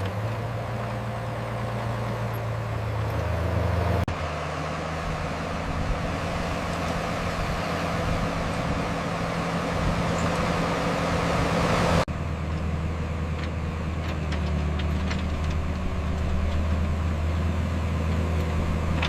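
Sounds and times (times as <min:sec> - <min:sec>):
heavy diesel machinery engine: 0:00.0 - 0:19.0.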